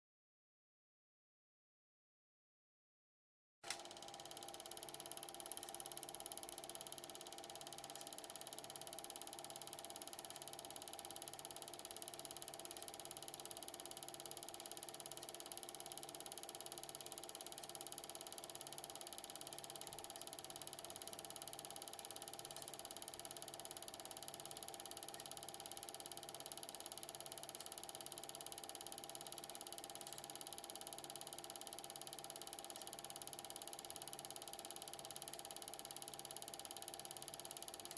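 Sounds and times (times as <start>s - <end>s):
film projector whirring: 3.7s - 37.9s.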